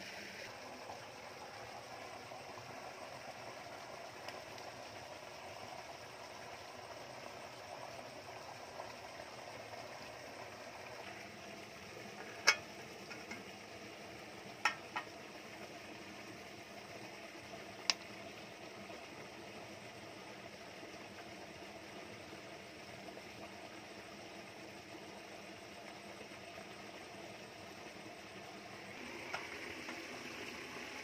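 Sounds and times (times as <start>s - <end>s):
low outdoor hiss: 0.0s - 31.0s.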